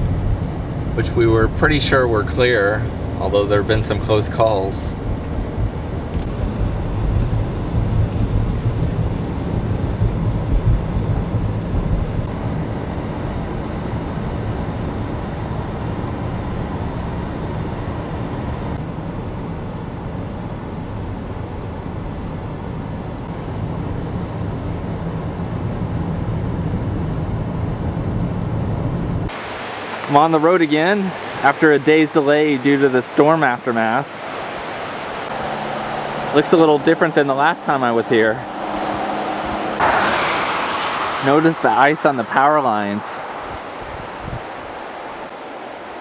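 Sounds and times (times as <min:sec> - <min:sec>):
road and engine noise in cabin: 0:00.0 - 0:46.0.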